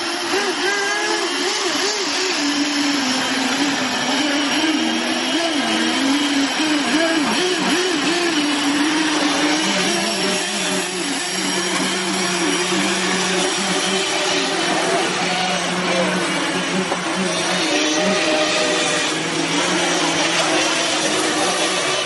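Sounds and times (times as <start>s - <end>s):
small electric motors whining: 0.0s - 22.0s
steady motor hum: 0.0s - 22.0s.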